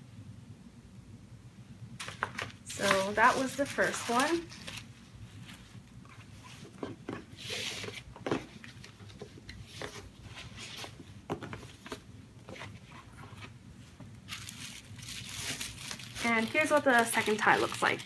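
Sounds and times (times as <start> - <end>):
tissue paper rustling: 2.0 - 11.1, 11.7 - 18.0
paper packaging rustling: 2.0 - 13.6, 14.2 - 18.0.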